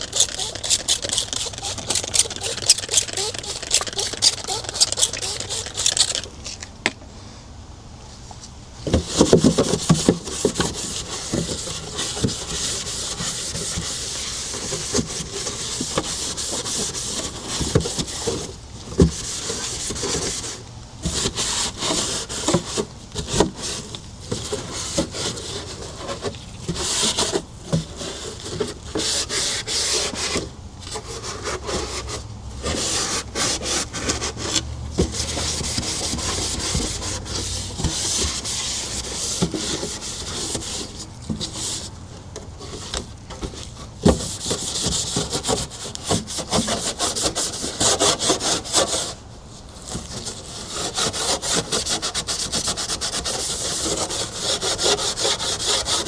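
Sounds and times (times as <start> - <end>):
scrubbing refrigerator surface: 0.0 - 6.3, 9.1 - 42.0, 42.6 - 56.0.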